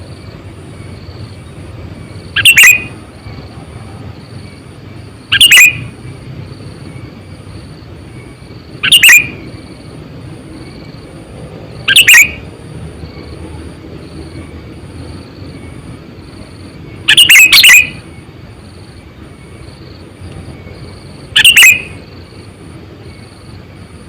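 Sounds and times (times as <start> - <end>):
bird chirping calls: 0.0 - 24.0.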